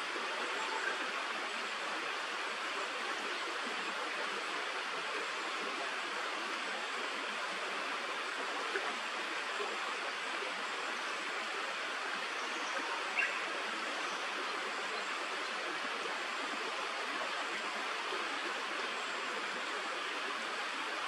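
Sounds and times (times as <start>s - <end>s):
stream running: 0.0s - 21.0s.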